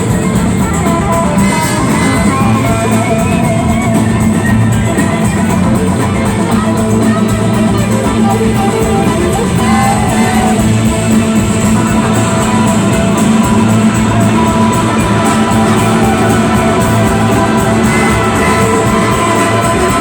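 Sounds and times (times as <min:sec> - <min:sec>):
electric guitar: 0:00.0 - 0:20.0
live rock band playing: 0:00.0 - 0:20.0.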